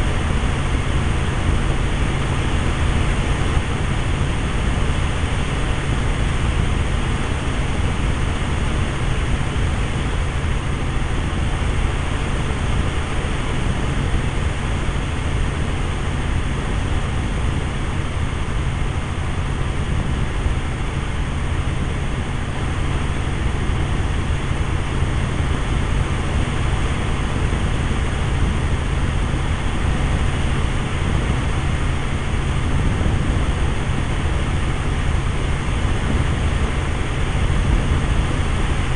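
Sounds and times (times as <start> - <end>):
helicopter engine and rotor: 0.0 - 36.2.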